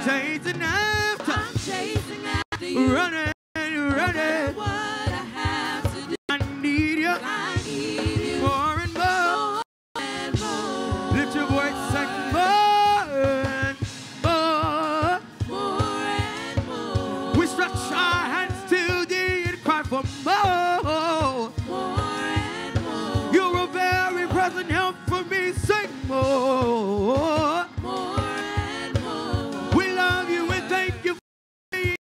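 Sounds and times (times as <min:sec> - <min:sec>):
gospel vocalists singing: 0:00.0 - 0:31.2
accompaniment with low beat: 0:01.0 - 0:32.0.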